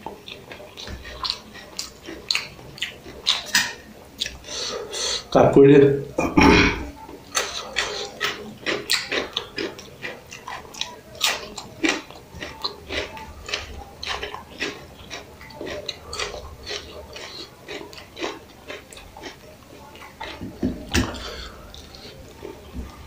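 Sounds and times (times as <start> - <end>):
wet chewing and lip smacking: 0.0 - 5.3, 7.0 - 23.0.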